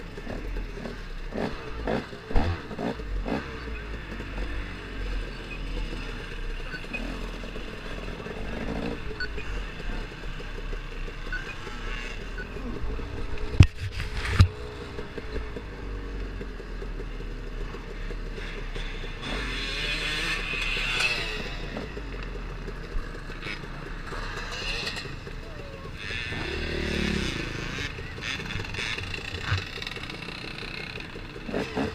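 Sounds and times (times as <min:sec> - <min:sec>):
dirt bike engine running: 0:00.0 - 0:31.9.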